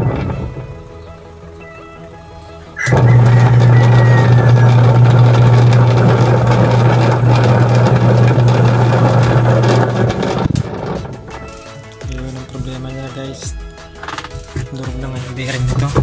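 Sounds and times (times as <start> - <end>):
washing machine grinding: 0.0 - 16.0.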